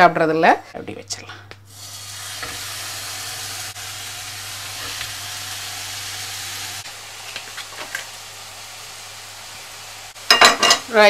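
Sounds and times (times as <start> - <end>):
steaks sizzling in a frying pan: 1.7 - 11.0.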